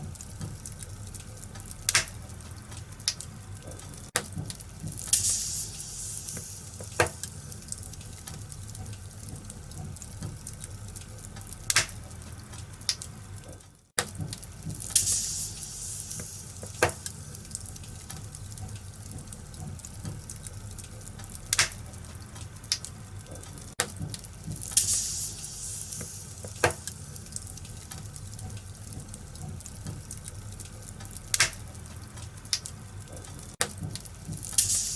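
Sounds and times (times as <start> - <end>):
low rumble of fire: 0.0 - 34.9
wood fire crackling: 0.0 - 34.9
sharp pops of burning wood: 0.3 - 34.9.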